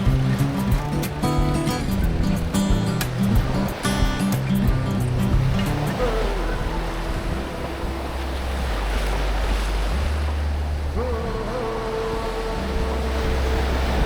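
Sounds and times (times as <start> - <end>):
ocean surf washing on beach: 0.0 - 14.0
wind noise on microphone: 0.0 - 14.0.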